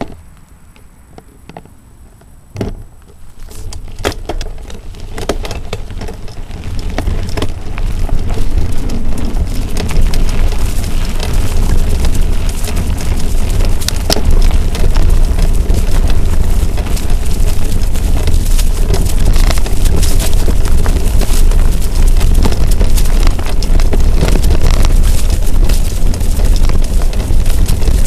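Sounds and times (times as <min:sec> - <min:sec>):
bike clicking and rattling: 0:00.0 - 0:28.0
tyres crackling over leaves: 0:00.0 - 0:28.0
wind buffeting microphone: 0:01.1 - 0:28.0.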